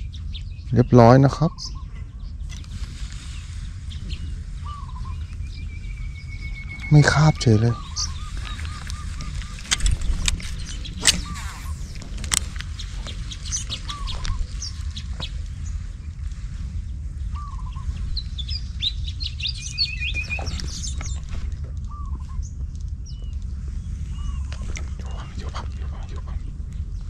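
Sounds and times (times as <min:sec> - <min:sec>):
high bird chirps and trill: 0:00.0 - 0:02.6, 0:03.3 - 0:15.8, 0:17.3 - 0:23.4, 0:24.0 - 0:27.0
steady low rumble: 0:00.0 - 0:27.0.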